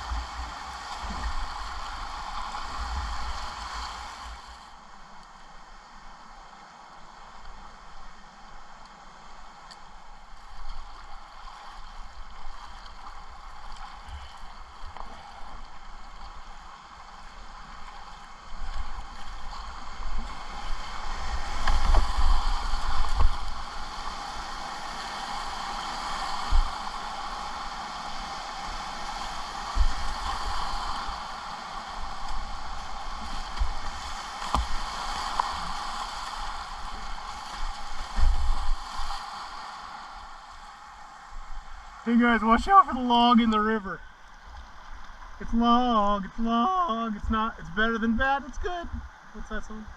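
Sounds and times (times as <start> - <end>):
rushing whitewater: 0.0 - 49.9.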